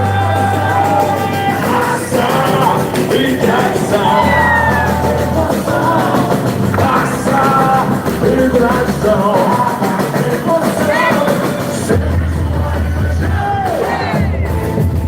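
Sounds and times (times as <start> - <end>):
person singing: 0.0 - 14.7
amplified band playing: 0.0 - 14.9.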